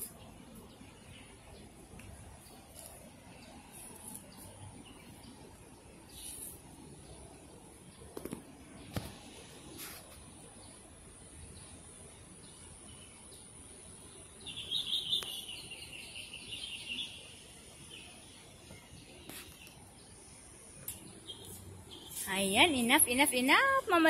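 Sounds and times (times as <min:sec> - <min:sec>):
faint outdoor background noise: 0:00.0 - 0:24.0
songbird chirping: 0:00.0 - 0:24.0.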